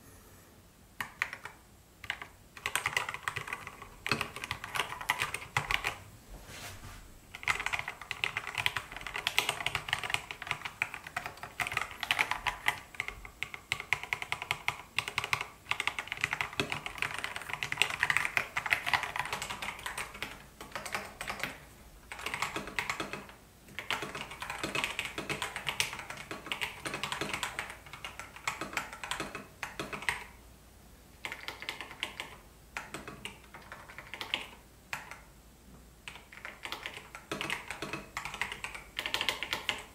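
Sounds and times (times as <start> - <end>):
mechanical keyboard typing: 1.0 - 6.0, 7.3 - 30.4, 31.2 - 35.3, 36.0 - 39.9.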